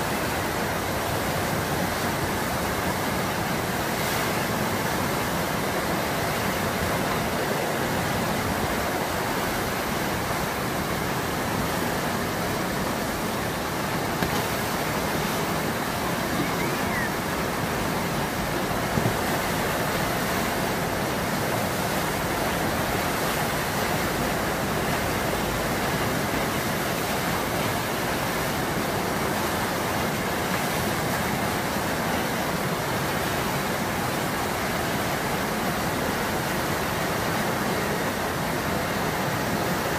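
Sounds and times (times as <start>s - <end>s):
white water rushing: 0.0s - 39.9s.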